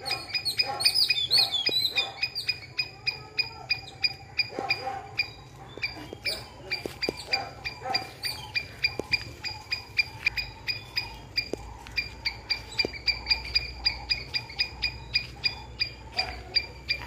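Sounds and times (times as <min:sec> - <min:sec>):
squirrel alarm call chips: 0:00.0 - 0:17.0.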